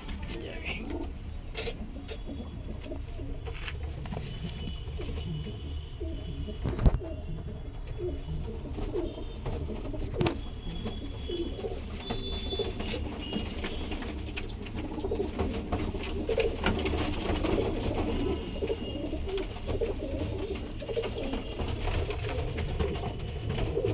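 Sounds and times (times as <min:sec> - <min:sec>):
pigeons cooing: 0:00.0 - 0:23.9.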